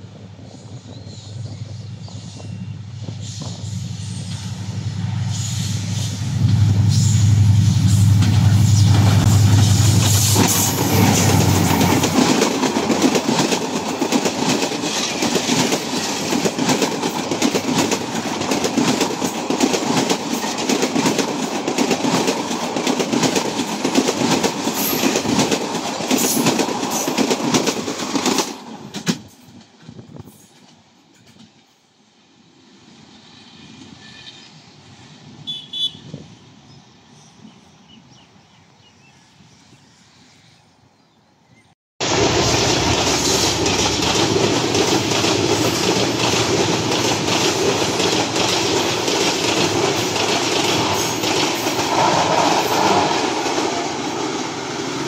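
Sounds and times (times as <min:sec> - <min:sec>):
train wheels clattering on rails: 0:00.0 - 0:31.9, 0:42.0 - 0:55.0
diesel locomotive engine hum: 0:00.0 - 0:38.1, 0:42.0 - 0:55.0.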